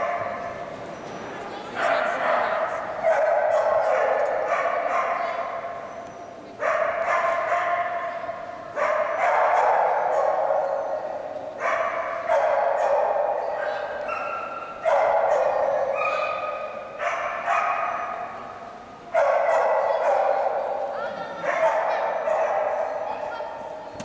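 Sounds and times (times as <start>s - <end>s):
dog barking with echo: 1.8s - 5.8s, 6.6s - 18.4s, 19.1s - 23.8s.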